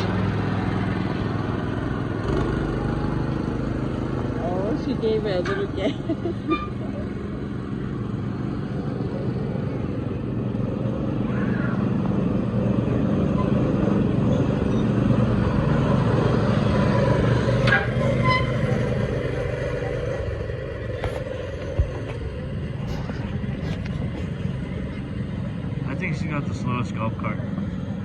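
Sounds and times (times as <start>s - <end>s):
go-kart engines droning: 0.0s - 28.0s.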